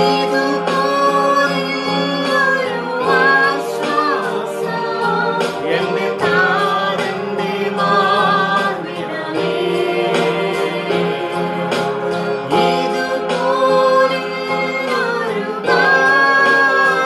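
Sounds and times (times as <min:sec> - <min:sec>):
song with singing voices: 0:00.0 - 0:17.0.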